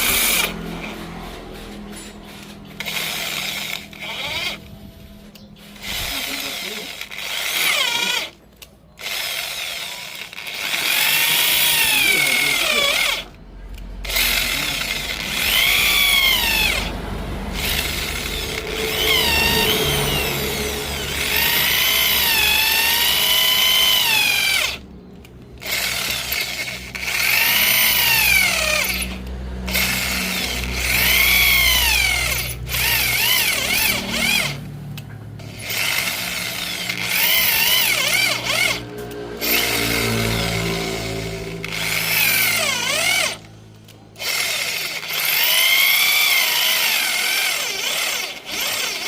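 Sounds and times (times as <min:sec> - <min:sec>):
electric drill whining: 0:00.0 - 0:49.0.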